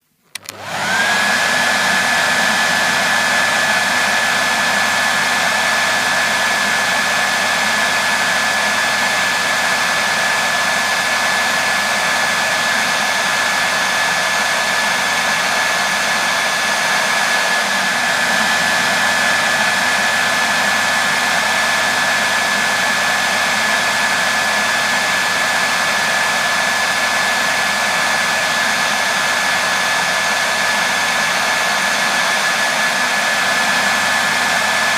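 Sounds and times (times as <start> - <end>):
hairdryer running: 0.2 - 34.9.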